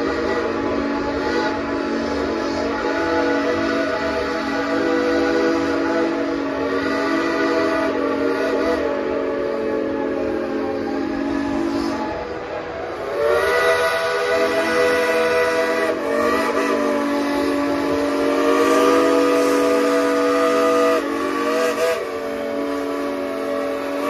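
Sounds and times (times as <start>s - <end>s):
steam locomotive whistles blowing: 0.0s - 24.0s.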